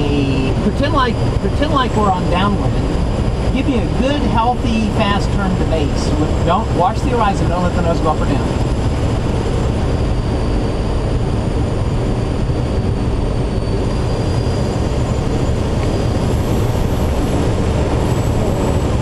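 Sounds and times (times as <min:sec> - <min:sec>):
air rushing around glider cockpit: 0:00.0 - 0:19.0.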